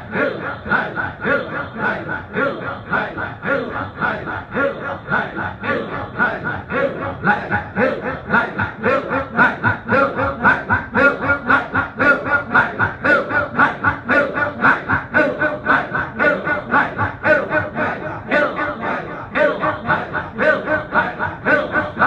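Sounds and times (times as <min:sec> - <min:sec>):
man leading chant on microphone: 0:00.0 - 0:22.0
men chanting together: 0:00.0 - 0:22.0.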